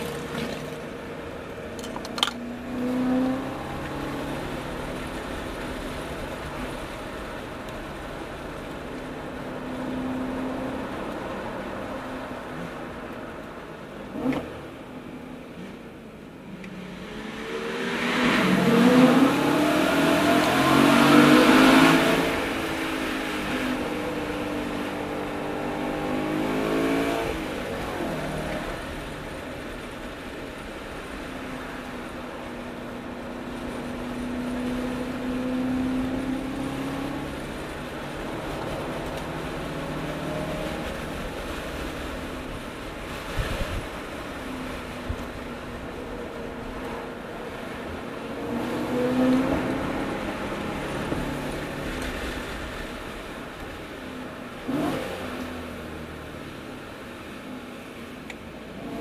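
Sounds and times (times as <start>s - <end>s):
car engine driving: 0.0s - 59.0s
wind and road noise: 0.0s - 59.0s.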